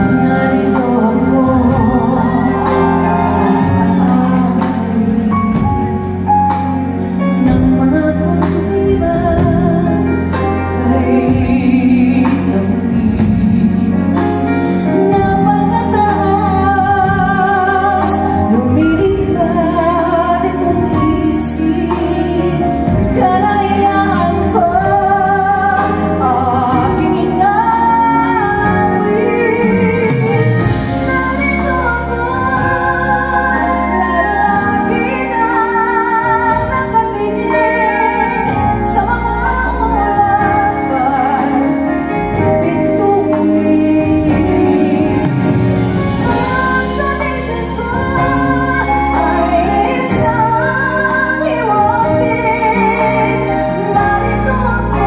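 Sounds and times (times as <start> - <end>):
instrumental accompaniment: 0.0 - 55.0
woman singing with vibrato: 0.0 - 55.0.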